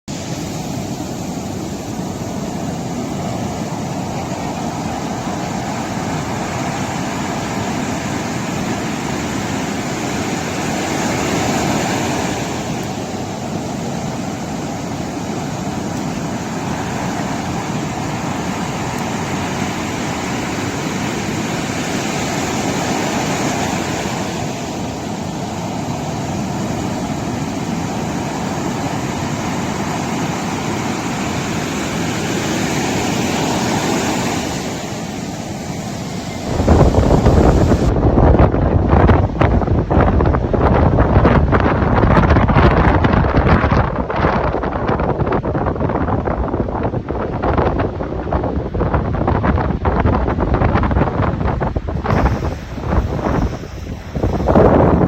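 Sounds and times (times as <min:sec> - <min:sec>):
sea waves washing onto shore: 0:00.1 - 0:55.0
wind noise: 0:00.1 - 0:55.0.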